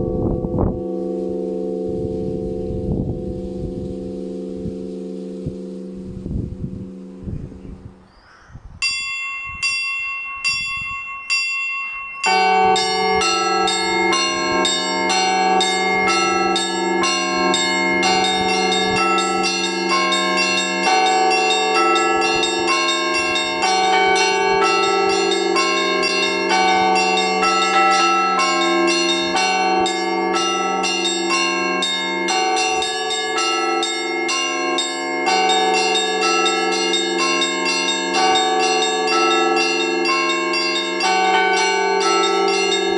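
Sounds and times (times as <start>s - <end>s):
church bells pealing: 0.0s - 7.9s, 8.8s - 42.9s
big bell low hum: 0.0s - 8.0s, 8.8s - 42.9s.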